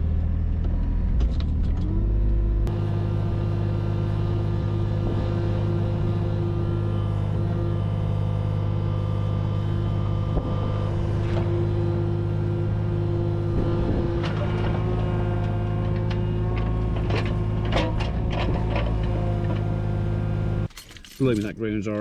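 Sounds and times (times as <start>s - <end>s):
digger diesel engine running: 0.0s - 22.0s.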